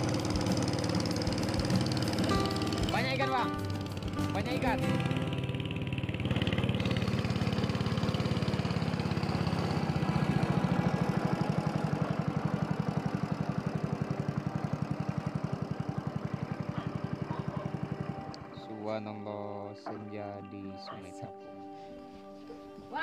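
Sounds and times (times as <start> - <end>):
boat engine chugging: 0.0 - 20.2.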